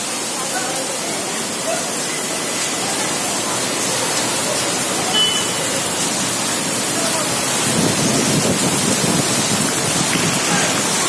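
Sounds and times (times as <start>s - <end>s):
heavy rain and hail on road: 0.0s - 11.0s.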